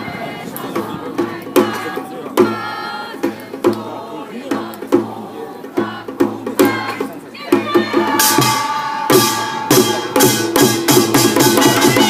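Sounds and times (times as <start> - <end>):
percussion band drumming: 0.7 - 12.0.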